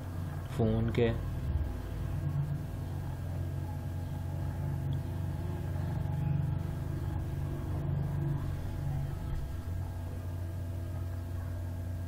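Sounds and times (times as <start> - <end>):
van engine idling: 0.6 - 11.6.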